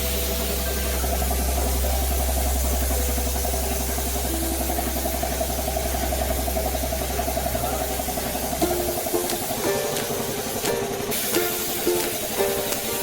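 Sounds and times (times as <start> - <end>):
air compressor motor running: 0.0 - 13.0.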